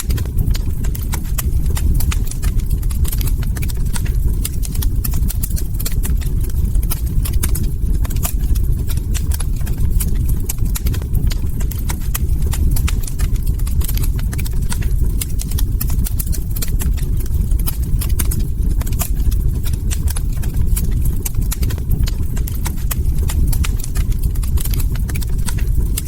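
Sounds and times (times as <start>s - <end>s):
log fire crackling: 0.0s - 26.0s
low rumble of burning wood: 0.0s - 26.0s.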